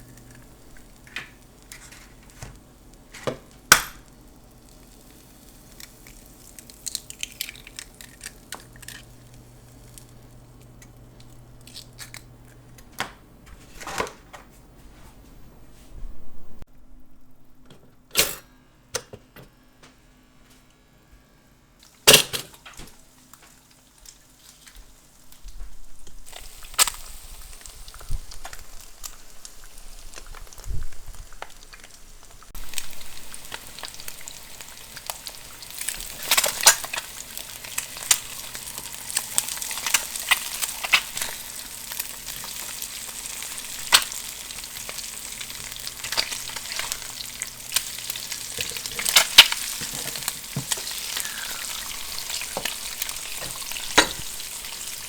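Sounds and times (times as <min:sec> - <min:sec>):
food sizzling in a pan: 0:00.0 - 0:12.4, 0:21.8 - 0:55.0.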